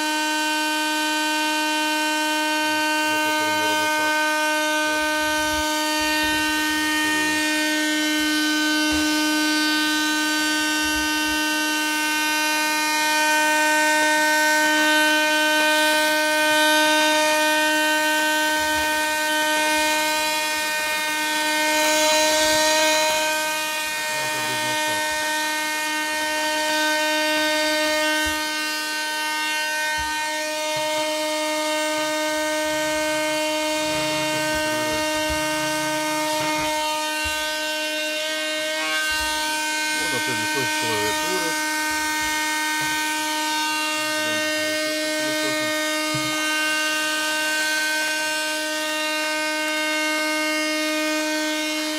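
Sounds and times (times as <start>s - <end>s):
vacuum cleaner motor whine: 0.0s - 51.9s.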